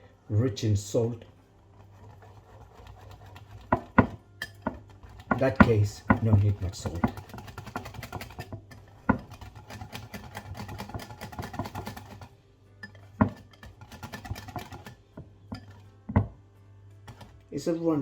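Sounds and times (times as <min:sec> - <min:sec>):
utensil stirring batter in bowl: 0:01.0 - 0:17.8.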